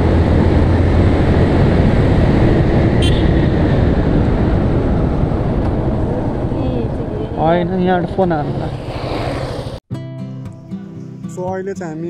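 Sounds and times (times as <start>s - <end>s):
motorcycle engine and tyres: 0.0s - 9.8s
wind rushing: 0.0s - 9.8s.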